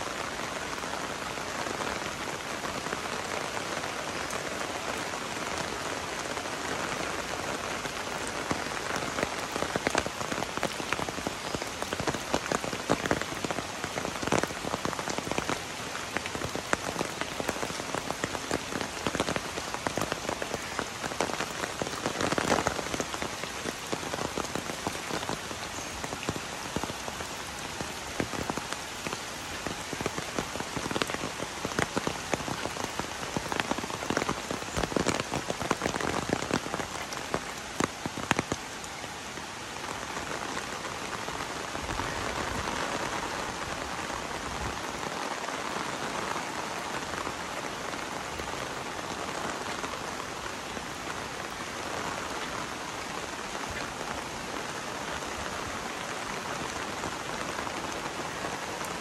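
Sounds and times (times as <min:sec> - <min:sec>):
raindrops hitting an umbrella: 0:00.0 - 0:59.0
steady rain falling: 0:00.0 - 0:59.0.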